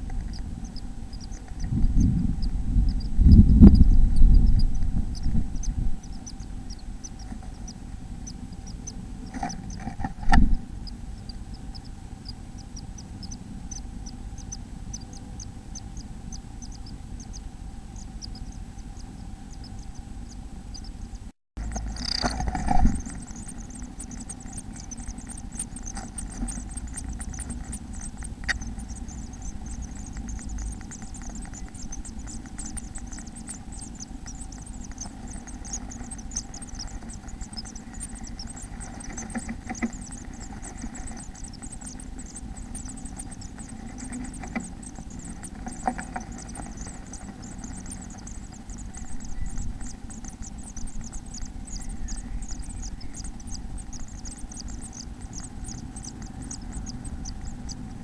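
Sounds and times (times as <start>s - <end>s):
chicks cheeping: 0.0s - 58.0s
low electrical hum: 0.0s - 58.0s.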